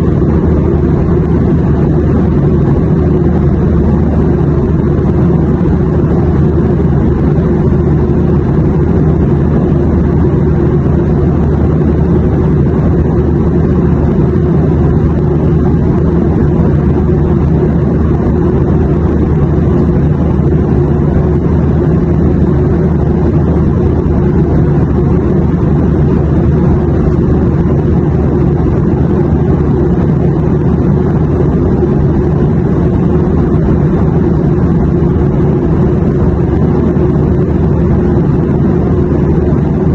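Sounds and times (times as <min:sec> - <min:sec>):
airplane drone: 0:00.0 - 0:39.9.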